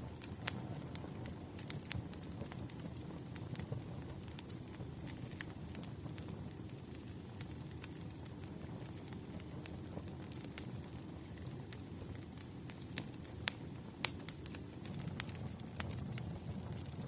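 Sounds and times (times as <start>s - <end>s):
fire rumbling: 0.0s - 17.0s
logs crackling and popping: 0.0s - 17.0s.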